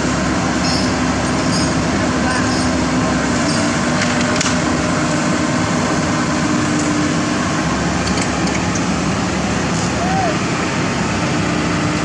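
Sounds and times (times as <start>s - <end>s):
heavy machinery engine hum: 0.0s - 12.0s.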